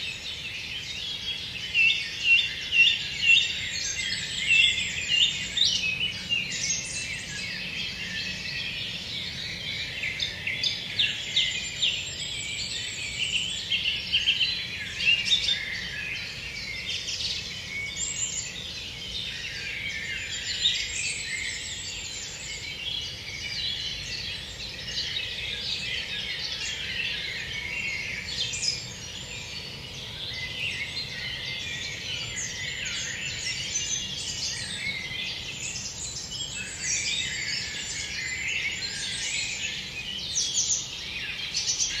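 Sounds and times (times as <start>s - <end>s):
forest birds singing: 0.0s - 42.0s.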